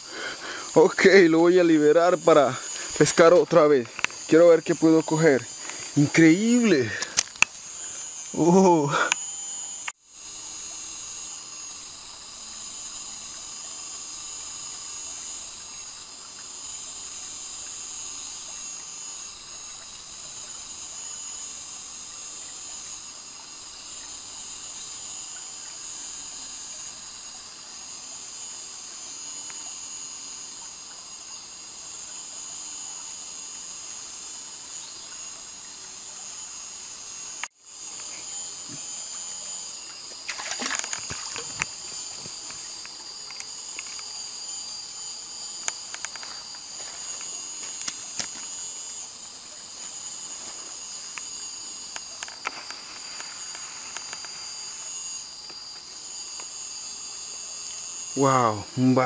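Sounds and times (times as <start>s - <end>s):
shrill insect chorus: 0.0s - 59.0s.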